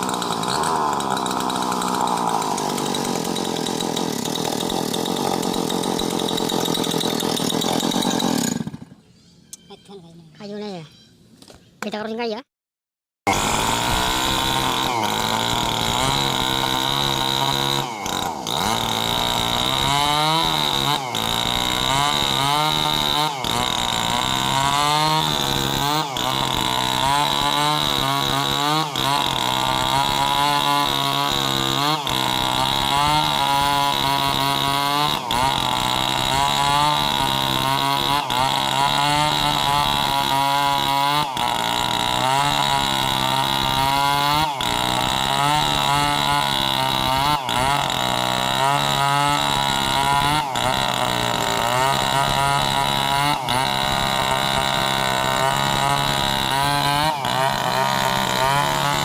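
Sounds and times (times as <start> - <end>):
chainsaw cutting wood: 0.0 - 9.0, 13.3 - 59.0.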